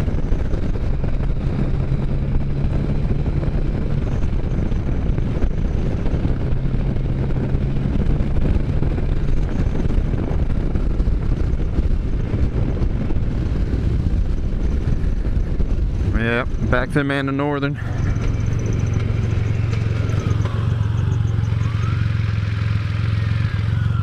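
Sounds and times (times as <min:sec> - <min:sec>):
motorcycle engine cruising: 0:00.0 - 0:24.0
wind rumble on microphone: 0:00.0 - 0:24.0.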